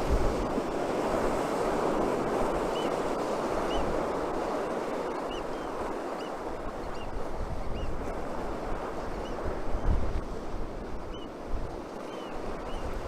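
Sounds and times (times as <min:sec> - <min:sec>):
surf breaking on shore: 0:00.0 - 0:13.0
wind: 0:00.0 - 0:13.0.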